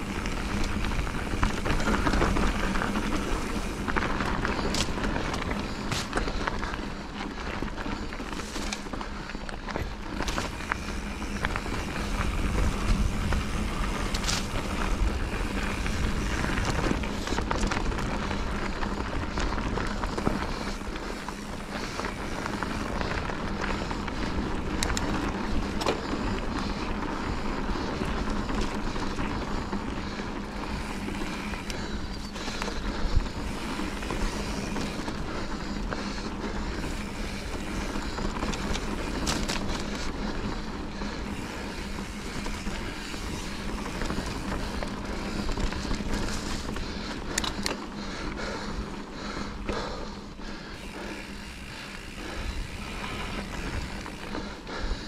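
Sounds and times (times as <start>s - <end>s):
wind buffeting microphone: 9.8s - 50.0s, 50.6s - 55.0s.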